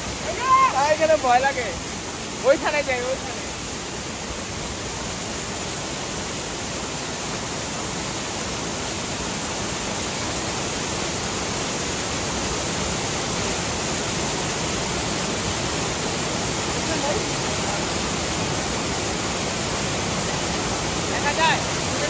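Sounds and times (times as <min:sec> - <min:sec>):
waterfall rushing over boulders: 0:00.0 - 0:22.0.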